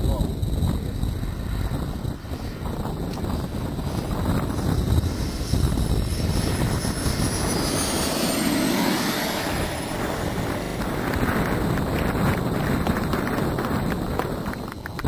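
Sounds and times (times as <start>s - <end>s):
broad rushing noise: 0.0s - 15.0s
model jet engines whining: 0.0s - 15.0s.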